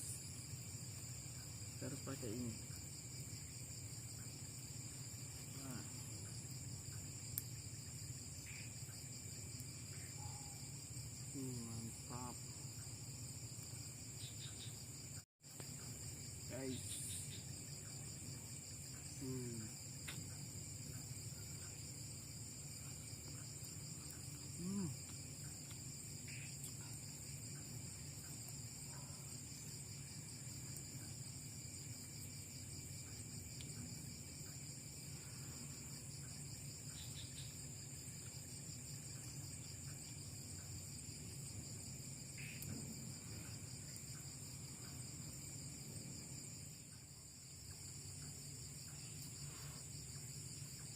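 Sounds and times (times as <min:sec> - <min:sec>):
crickets trilling: 0:00.0 - 0:50.9.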